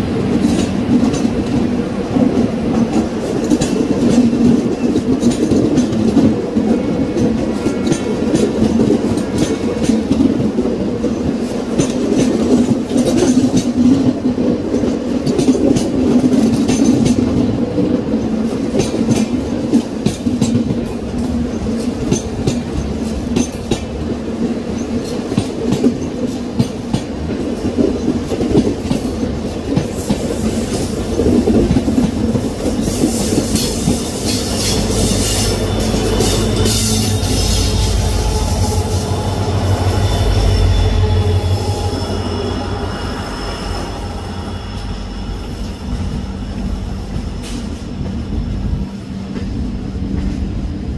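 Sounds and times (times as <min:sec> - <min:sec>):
diesel locomotive engine drone: 0:00.0 - 0:50.9
train wheels clattering: 0:00.0 - 0:50.9.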